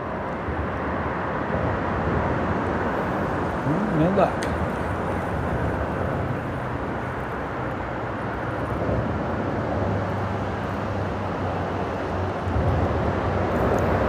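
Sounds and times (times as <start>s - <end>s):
freeway traffic rumble: 0.0s - 14.0s.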